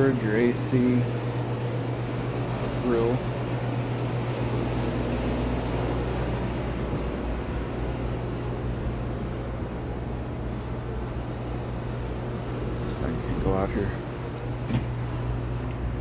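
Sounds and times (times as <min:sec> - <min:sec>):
air conditioning unit humming: 0:00.0 - 0:16.0.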